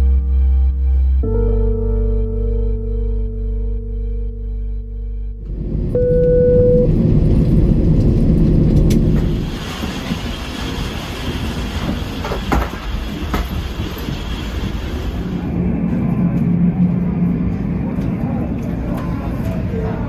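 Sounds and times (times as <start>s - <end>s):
vehicle rumbling: 0.0s - 20.0s.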